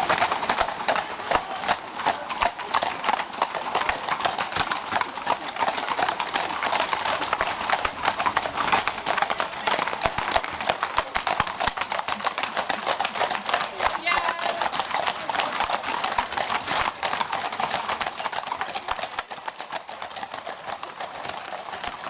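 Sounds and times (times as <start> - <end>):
horses' hooves clip-clopping: 0.0 - 22.0.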